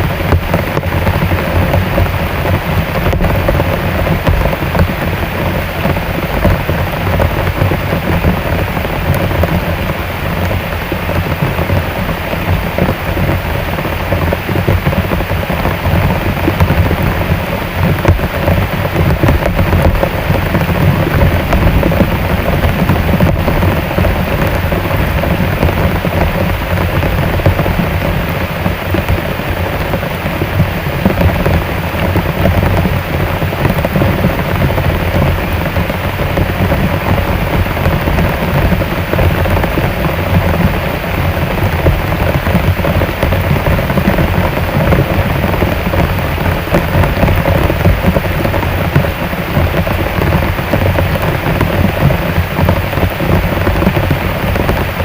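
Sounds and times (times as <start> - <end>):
deep low rumble: 0.0 - 54.8
heavy rain drumming on roof: 0.0 - 55.0.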